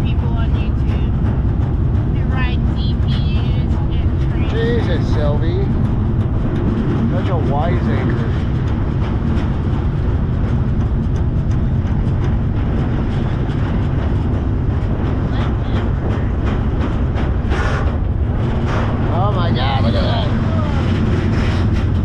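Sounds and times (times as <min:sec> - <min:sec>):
freight train rumble: 0:00.0 - 0:22.0
wheel clicks over rails: 0:00.0 - 0:22.0.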